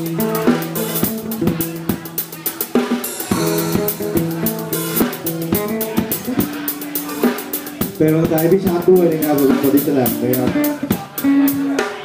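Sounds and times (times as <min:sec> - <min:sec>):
drum kit beat on cymbals: 0:00.0 - 0:12.0
guitar notes: 0:00.0 - 0:12.0.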